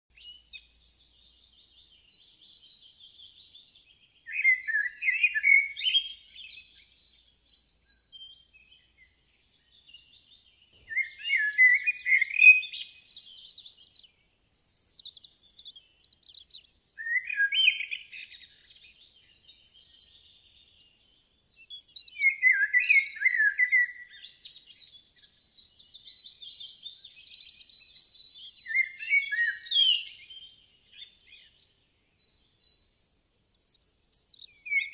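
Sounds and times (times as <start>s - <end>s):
bird singing: 0.1s - 34.9s
faint bird chirping: 0.1s - 34.9s.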